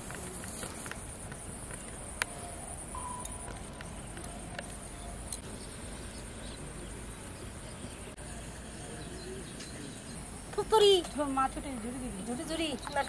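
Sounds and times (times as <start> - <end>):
high insect hum: 0.0 - 11.6.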